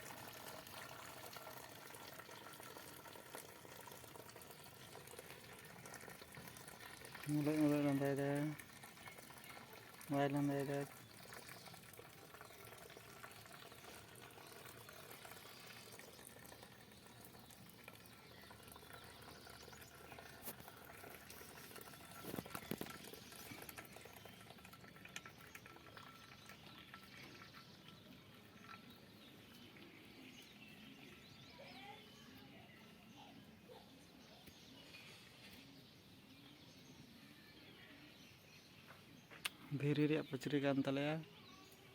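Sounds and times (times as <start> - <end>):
faint water sounds: 0.0 - 38.7.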